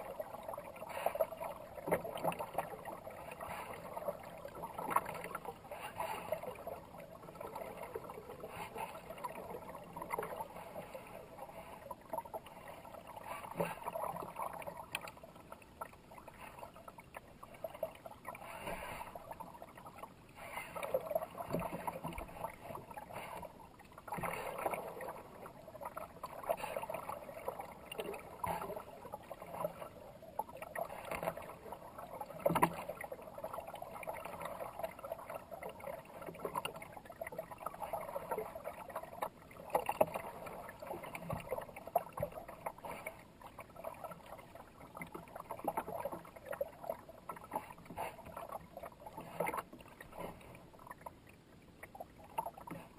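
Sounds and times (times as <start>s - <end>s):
paddle blades splashing: 0.0s - 52.9s.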